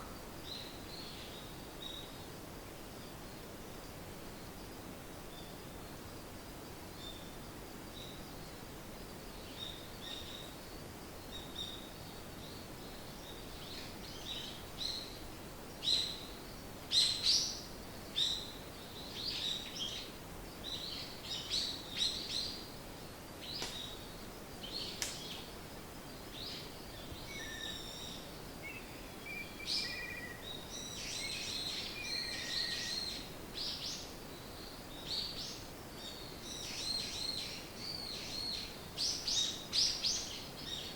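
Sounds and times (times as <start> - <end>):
faint steady hiss: 0.0 - 40.9
songbirds chirping: 0.0 - 40.9.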